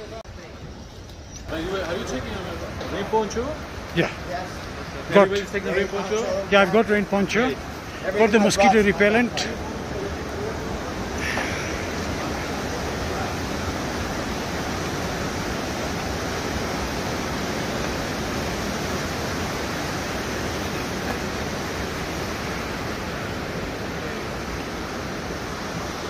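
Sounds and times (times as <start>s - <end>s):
fast-flowing water rushing: 1.5s - 26.0s.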